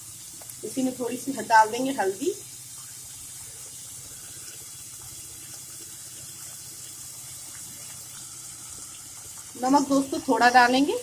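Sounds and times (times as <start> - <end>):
lentils sizzling in oil: 0.0 - 11.0.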